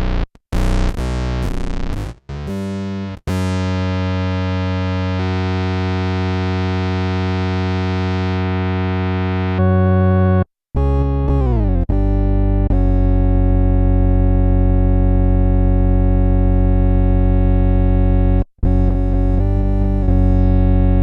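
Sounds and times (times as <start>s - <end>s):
synth bass notes: 0.0s - 21.0s.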